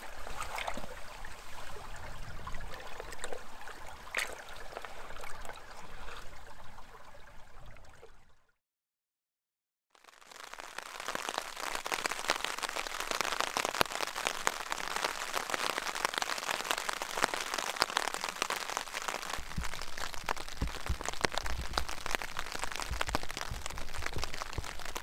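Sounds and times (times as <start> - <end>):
rain pattering on a tent: 0.0 - 5.5, 10.0 - 25.0.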